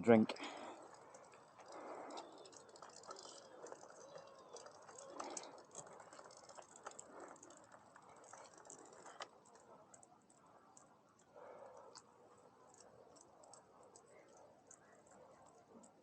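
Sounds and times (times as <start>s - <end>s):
faint clicks: 0.3s - 16.0s.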